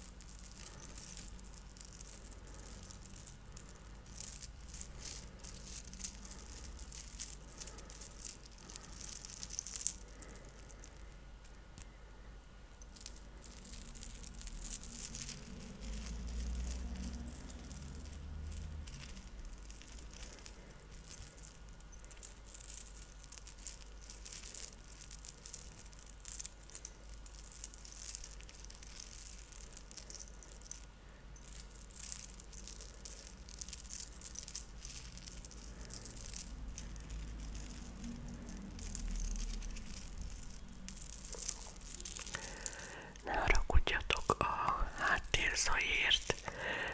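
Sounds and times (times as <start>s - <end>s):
beads rattling into a hand: 0.0s - 11.8s, 12.8s - 46.9s.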